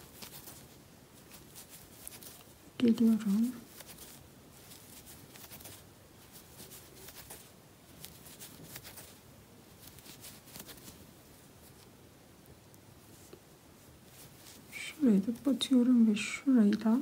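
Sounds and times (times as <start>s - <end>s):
yarn rustling: 0.0s - 12.2s, 12.9s - 17.0s.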